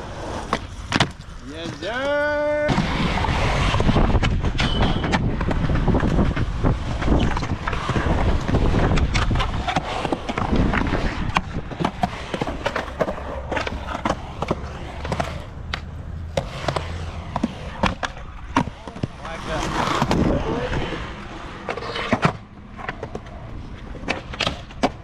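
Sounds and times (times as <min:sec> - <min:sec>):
skateboard wheels rolling: 0:00.0 - 0:25.0
skateboard clacking on ground: 0:00.1 - 0:25.0.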